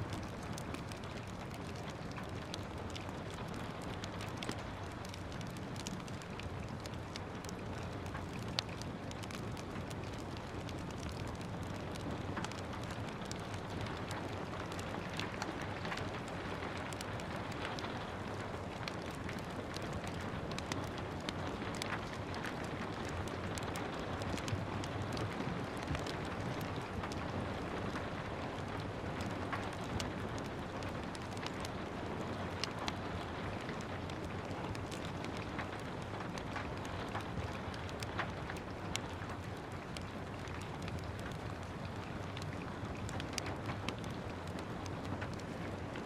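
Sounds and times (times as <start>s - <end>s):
steady rain falling: 0.0s - 46.0s
wood fire crackling: 0.0s - 46.0s.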